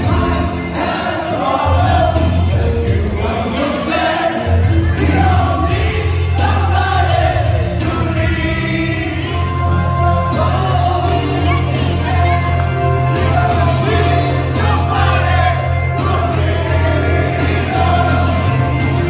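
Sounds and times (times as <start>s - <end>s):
crowd singing along: 0.0s - 19.0s
loud music with heavy bass: 0.0s - 19.0s.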